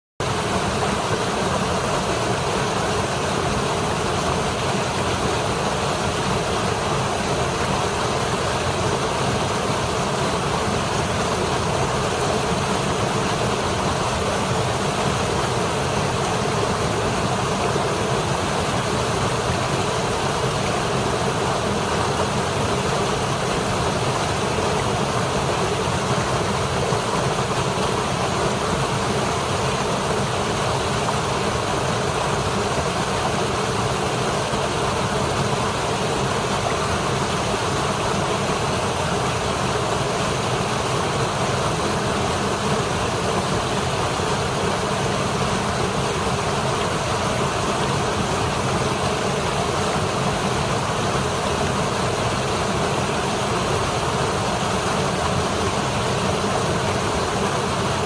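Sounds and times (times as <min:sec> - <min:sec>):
waterfall rushing over rocks: 0:00.2 - 0:58.0.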